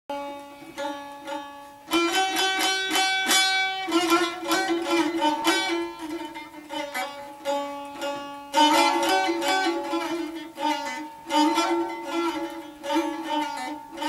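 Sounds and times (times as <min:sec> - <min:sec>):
saz melody plucked: 0:00.1 - 0:14.0.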